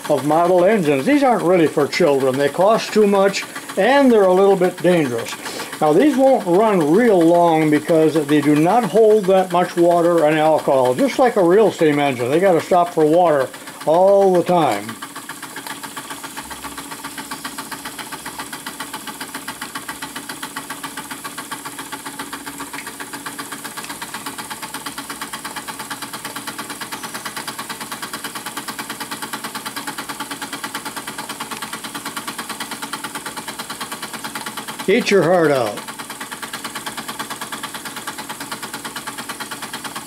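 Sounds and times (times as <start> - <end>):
model steam engines beating: 0.0 - 40.0.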